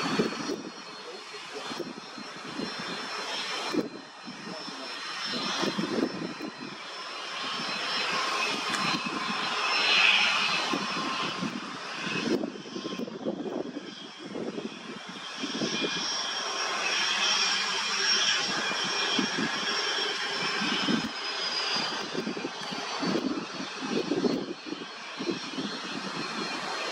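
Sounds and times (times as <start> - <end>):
wind buffeting microphone: 0.0 - 0.8, 1.6 - 6.8, 7.4 - 16.1, 18.3 - 26.9
jet engines whining: 0.0 - 26.9.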